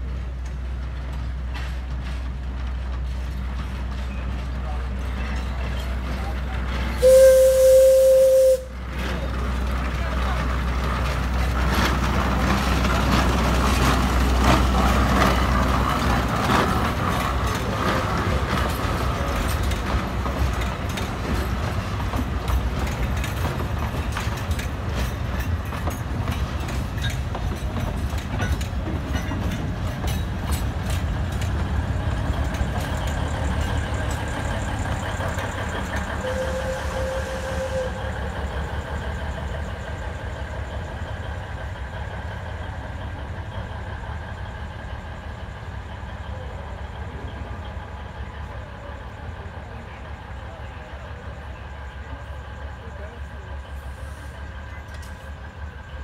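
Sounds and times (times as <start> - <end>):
diesel locomotive running: 0.0 - 56.0
train wheels clicking over joints: 0.0 - 56.0.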